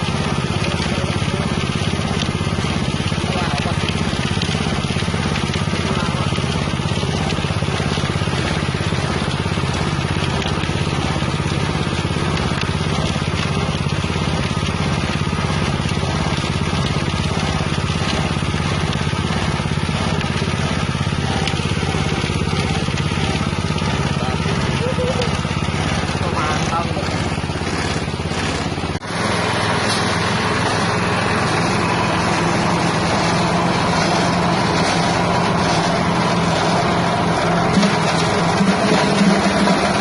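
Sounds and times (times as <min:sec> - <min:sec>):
spice grinding mill running: 0:00.0 - 0:40.0.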